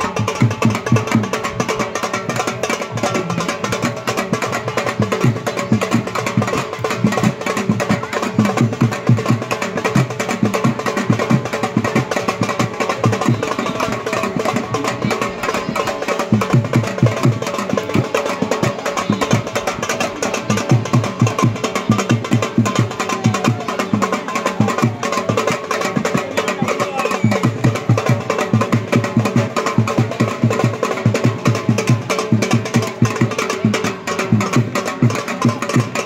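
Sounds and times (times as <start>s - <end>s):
hand drum beating fast rhythm: 0.0s - 36.0s.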